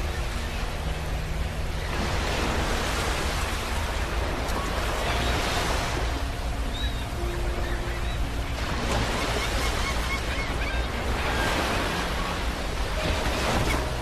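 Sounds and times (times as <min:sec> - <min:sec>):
ocean waves washing on beach: 0:00.0 - 0:14.0.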